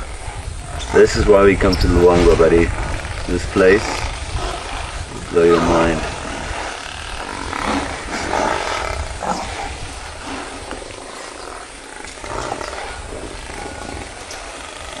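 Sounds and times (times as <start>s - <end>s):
wild animals growling: 0.0s - 15.0s.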